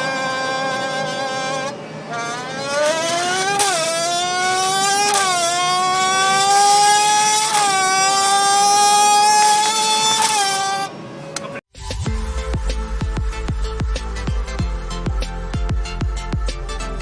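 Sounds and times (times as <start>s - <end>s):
car exhaust high whine: 0.0s - 17.0s.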